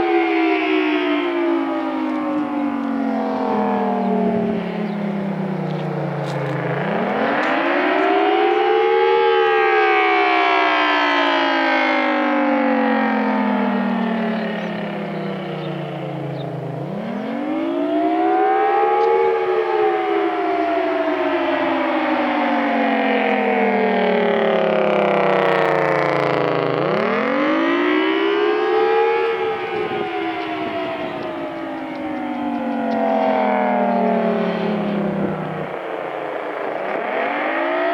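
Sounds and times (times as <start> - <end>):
warning siren wailing: 0.0 - 37.9.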